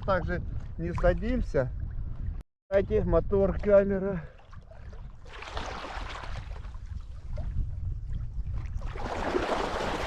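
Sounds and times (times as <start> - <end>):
water splashing and sloshing: 0.0 - 2.4, 3.3 - 10.0
wind rumble on microphone: 0.0 - 10.0.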